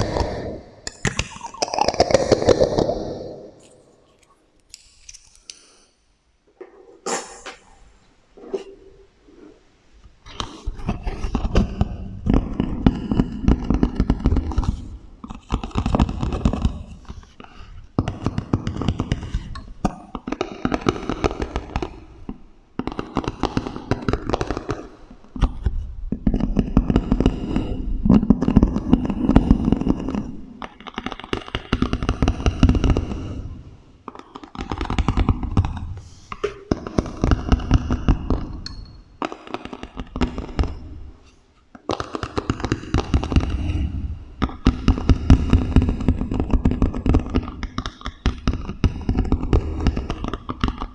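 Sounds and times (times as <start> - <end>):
echoing tapping and scratching: 0.0 - 5.4, 6.5 - 50.9.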